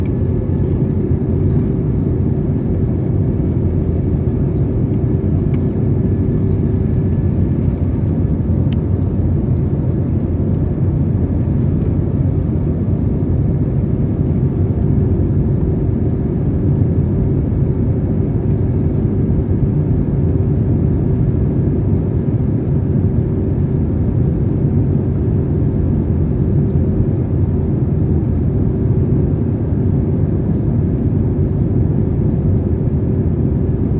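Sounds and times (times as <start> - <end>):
airliner cabin engine rumble: 0.0 - 33.9.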